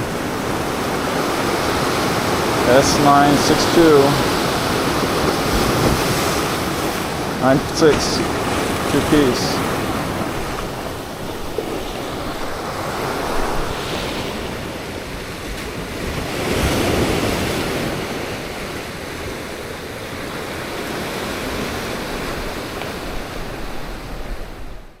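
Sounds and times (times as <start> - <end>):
ocean waves washing against rocks: 0.0 - 25.0
wind buffeting microphone: 0.0 - 25.0.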